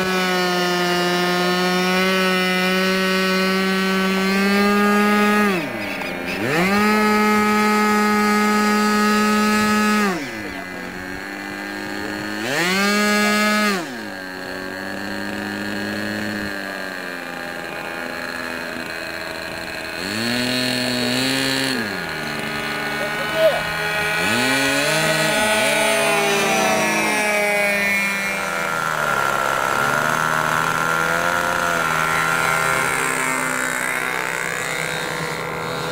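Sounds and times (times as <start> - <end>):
model airplane motor: 0.0 - 35.9.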